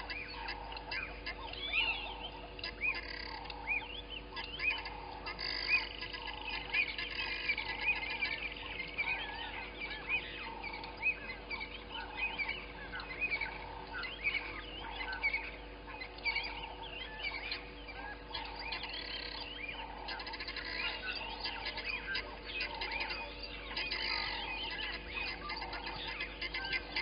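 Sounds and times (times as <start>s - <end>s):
birds chirping: 0.0s - 27.0s
faint steady hum: 0.0s - 27.0s
frogs calling: 0.0s - 27.0s.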